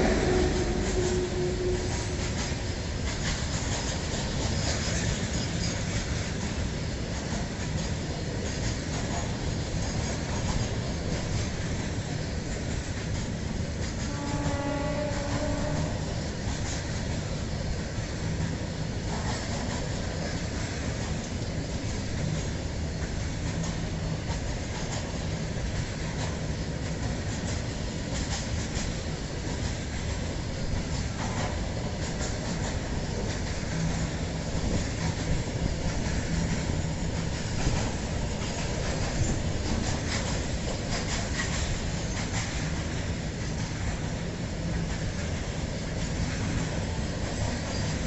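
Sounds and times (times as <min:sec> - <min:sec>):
train wheels rumbling on rails: 0:00.0 - 0:48.0
wheels clicking over rail joints: 0:00.0 - 0:48.0.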